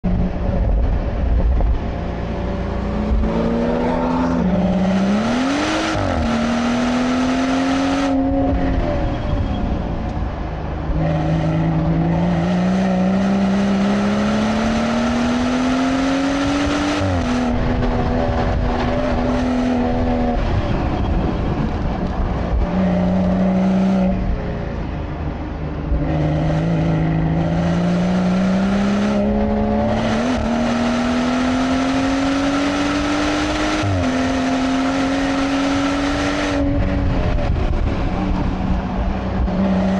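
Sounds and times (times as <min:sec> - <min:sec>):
car engine accelerating: 0:00.0 - 0:39.9
tyre and wind noise: 0:00.0 - 0:39.9.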